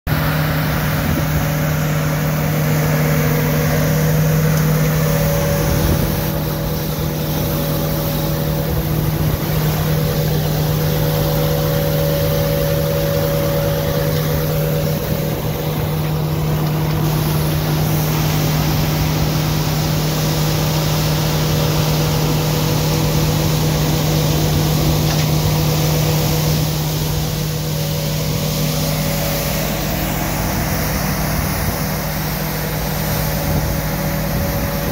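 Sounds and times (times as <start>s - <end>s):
brushes scrubbing paving: 0.1s - 34.9s
street sweeper engine humming: 0.1s - 34.9s.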